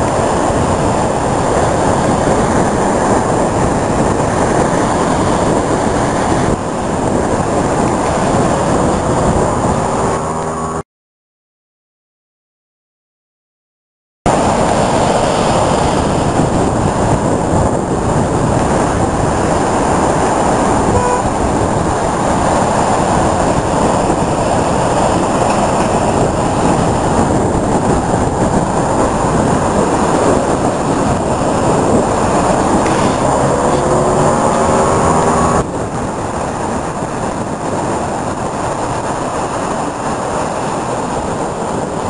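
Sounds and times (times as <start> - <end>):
surf breaking on rocky shore: 0.0 - 10.2, 14.3 - 42.0.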